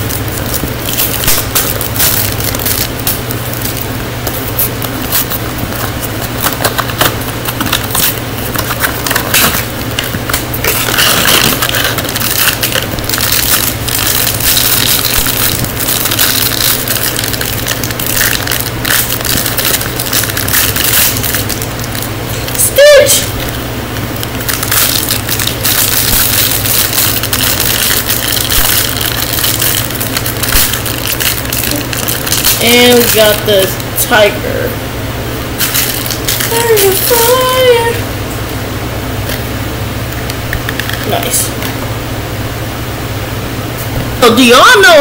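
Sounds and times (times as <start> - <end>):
foil wrapper crinkling and tearing: 0.0 - 33.8, 35.6 - 38.0, 40.2 - 41.4.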